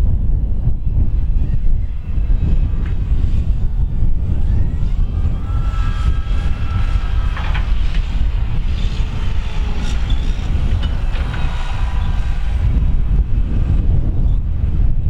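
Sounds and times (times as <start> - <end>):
faint whine: 0.8 - 15.0
tractor diesel engine rumbling: 0.9 - 15.0.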